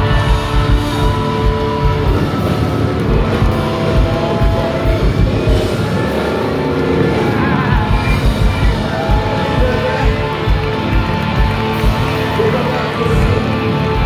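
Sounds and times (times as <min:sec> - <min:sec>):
live rock band through pa: 0:00.0 - 0:14.0.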